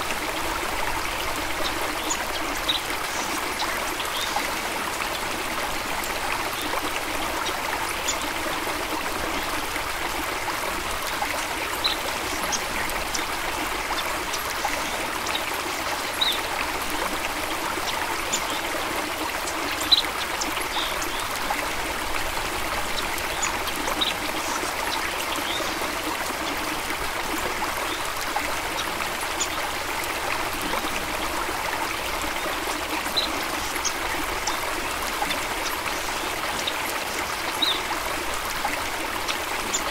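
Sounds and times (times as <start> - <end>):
stream flowing over stones: 0.0 - 39.9
water splashes and drips: 0.0 - 39.9.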